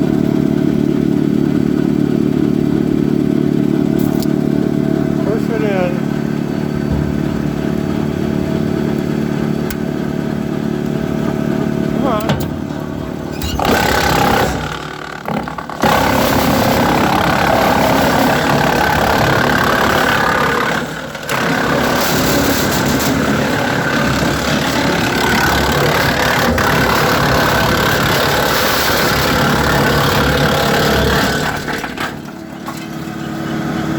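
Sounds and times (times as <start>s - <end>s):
tractor engine: 0.0s - 33.9s
wood chipper chewing limbs: 0.0s - 33.9s.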